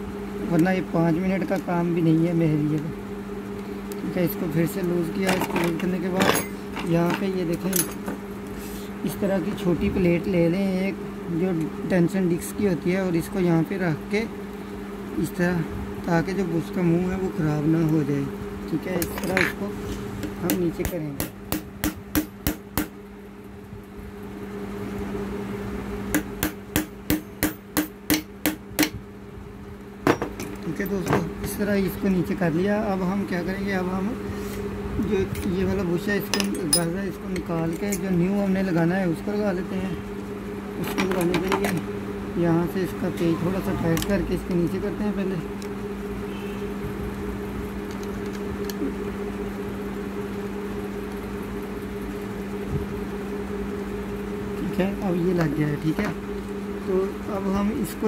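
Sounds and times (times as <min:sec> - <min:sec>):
low hum: 0:00.0 - 0:58.0.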